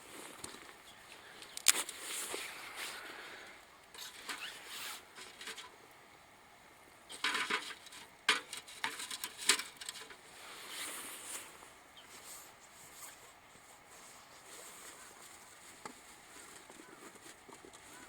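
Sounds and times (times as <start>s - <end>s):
rustling: 0.0s - 5.8s, 7.1s - 18.0s.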